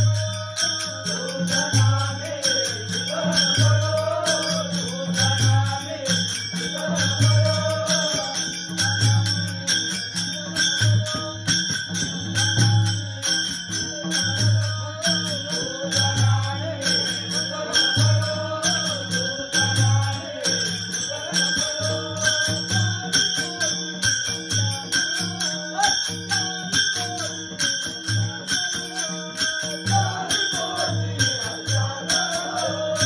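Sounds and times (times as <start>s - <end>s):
jingling percussion: 0.0s - 33.0s.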